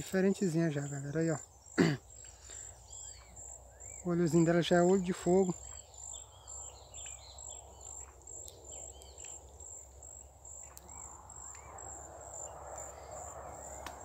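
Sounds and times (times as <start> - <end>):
insects trilling: 0.0 - 14.0
bird chirps: 0.4 - 14.0.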